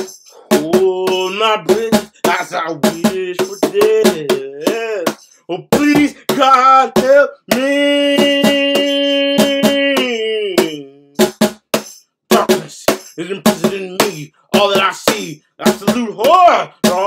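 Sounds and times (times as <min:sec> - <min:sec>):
cajon hits: 0:00.0 - 0:17.0
man singing: 0:00.0 - 0:17.0.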